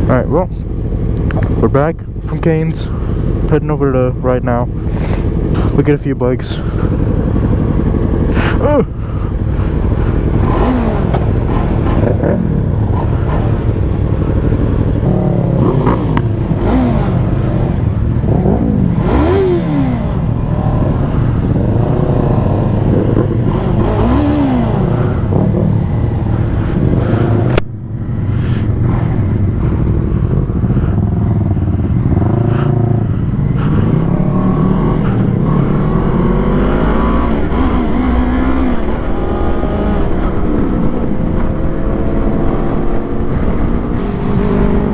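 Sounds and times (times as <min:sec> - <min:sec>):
loud rumble of riding noise: 0:00.0 - 0:44.9
motorcycle engine revving: 0:00.0 - 0:44.9.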